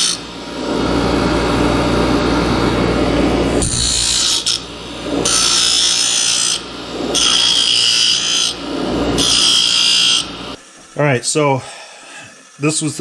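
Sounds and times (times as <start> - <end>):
bench grinder grinding metal: 0.0 - 11.4.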